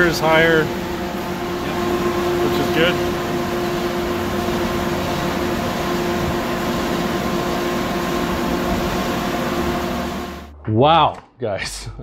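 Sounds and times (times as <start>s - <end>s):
fan blower whooshing: 0.0s - 10.5s.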